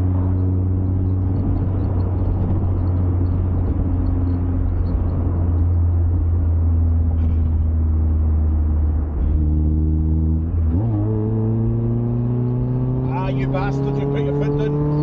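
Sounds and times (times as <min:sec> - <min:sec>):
car engine running: 0:00.0 - 0:15.0
tyre and road noise: 0:00.0 - 0:15.0.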